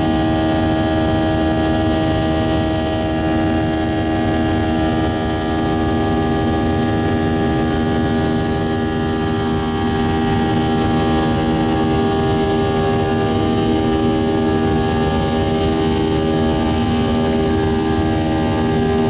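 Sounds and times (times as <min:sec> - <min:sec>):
airliner engines droning: 0:00.0 - 0:19.0.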